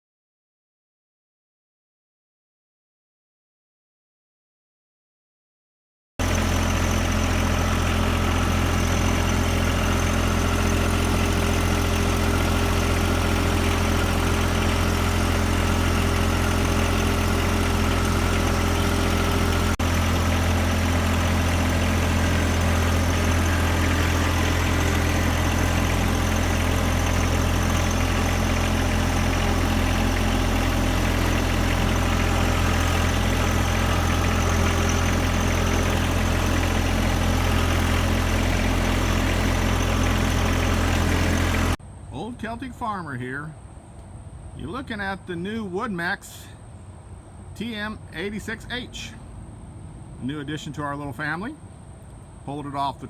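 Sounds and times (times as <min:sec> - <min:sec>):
tractor diesel engine idling: 0:06.2 - 0:53.0.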